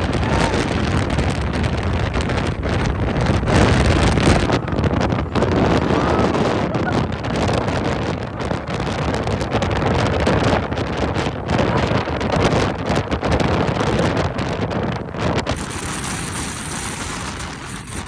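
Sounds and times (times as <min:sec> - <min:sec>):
wind buffeting microphone: 0:00.0 - 0:18.0
leaves rustling: 0:02.2 - 0:17.5.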